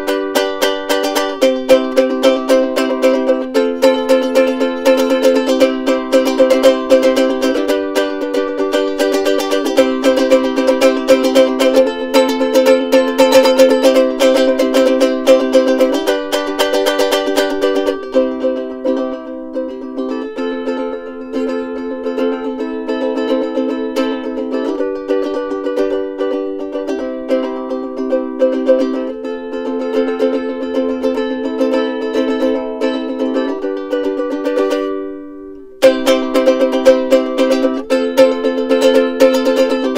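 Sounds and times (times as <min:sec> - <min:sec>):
ukulele chords strummed: 0:00.0 - 0:39.9.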